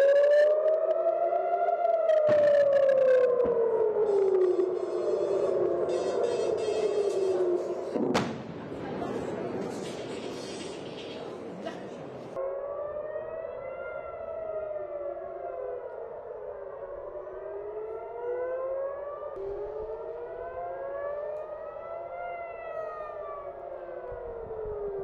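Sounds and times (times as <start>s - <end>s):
air-raid sirens wailing: 0.0s - 25.0s.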